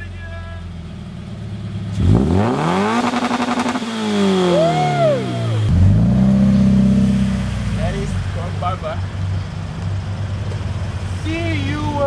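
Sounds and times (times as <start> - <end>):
car engine revving: 0.8 - 12.0.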